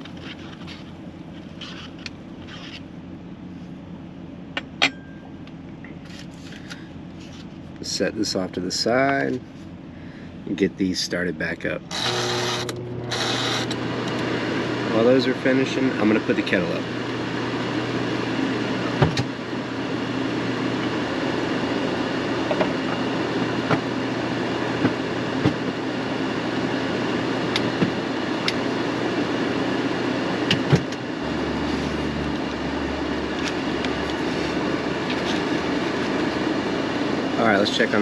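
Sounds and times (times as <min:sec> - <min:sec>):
low hum: 0:00.0 - 0:37.4.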